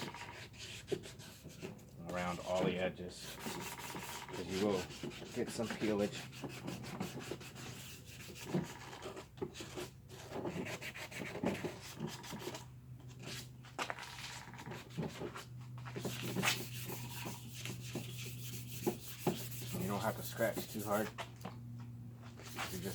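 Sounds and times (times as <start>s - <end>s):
sandpaper rubbing on plastic: 0.0s - 12.6s, 14.2s - 21.2s, 22.4s - 22.9s.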